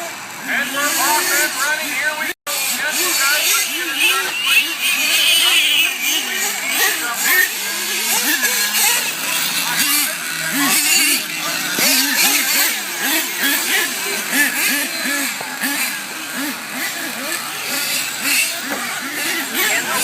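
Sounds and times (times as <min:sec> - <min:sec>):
monster truck engines revving: 0:00.0 - 0:20.0
steady engine drone: 0:00.0 - 0:20.0.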